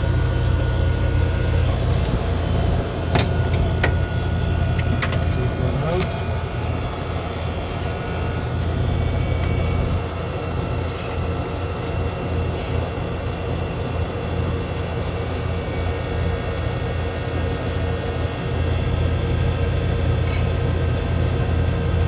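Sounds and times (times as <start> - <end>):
refrigeration unit humming: 0.0 - 22.0.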